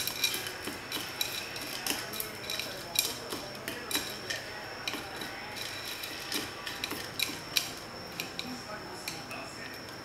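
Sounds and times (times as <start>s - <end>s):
utensils clinking against dish: 0.0s - 10.0s.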